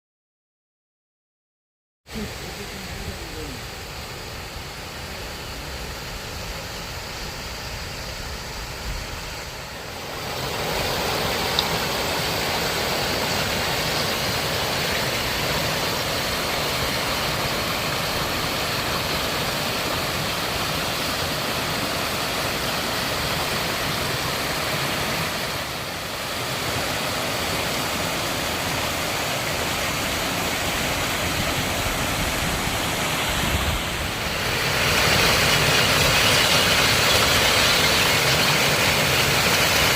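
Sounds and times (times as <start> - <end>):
stream rushing over rocks: 2.1 - 39.9.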